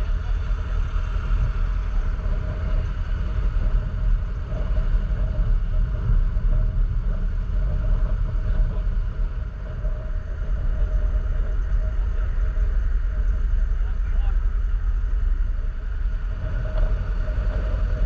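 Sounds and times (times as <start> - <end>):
atv engine running: 0.0 - 18.0
wind rumble on microphone: 0.0 - 18.0.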